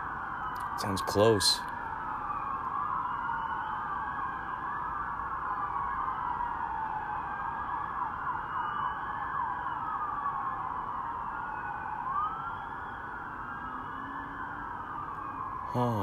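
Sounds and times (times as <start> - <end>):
police sirens wailing: 0.0 - 16.0.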